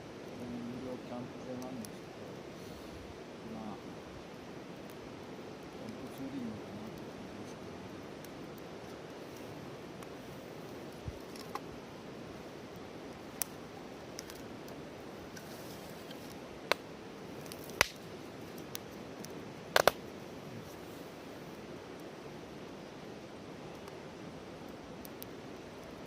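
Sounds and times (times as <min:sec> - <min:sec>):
low steady hiss: 0:00.0 - 0:26.0
wood fire crackling: 0:00.0 - 0:26.0
firewood popping: 0:00.2 - 0:26.0.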